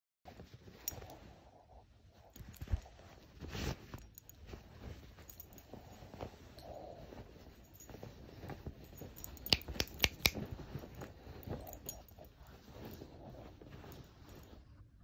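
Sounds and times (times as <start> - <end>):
bedding rustling: 0.3 - 15.0.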